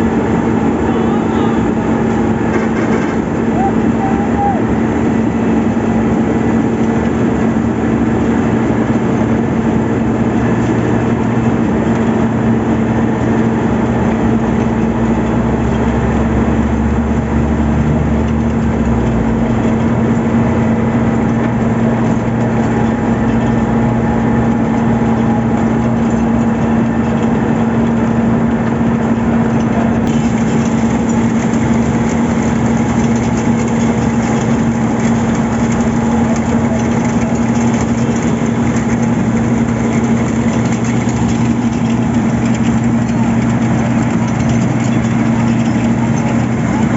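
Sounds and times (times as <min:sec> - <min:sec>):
diesel machinery humming: 0:00.0 - 0:46.9.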